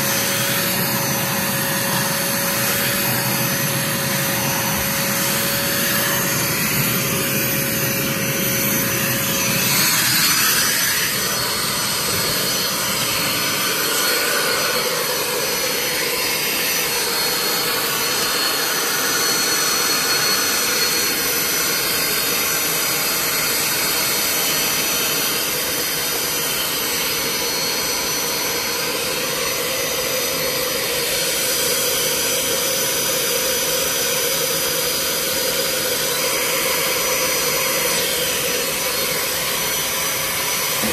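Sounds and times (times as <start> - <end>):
vacuum motor running: 0.0 - 40.9.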